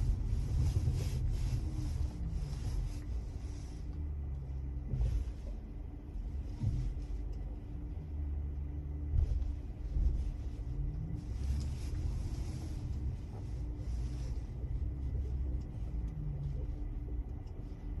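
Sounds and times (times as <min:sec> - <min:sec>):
electric car low rumble: 0:00.0 - 0:18.0.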